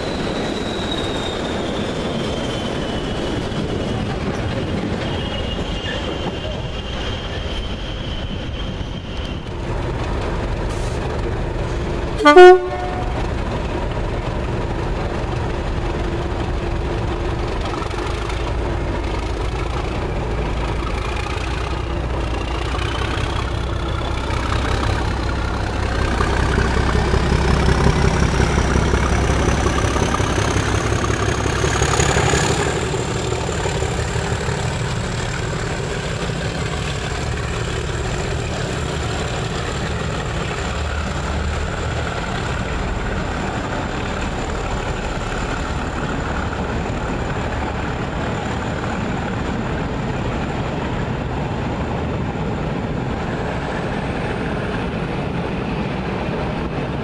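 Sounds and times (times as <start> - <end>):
diesel locomotive engine working hard: 0.0 - 57.0.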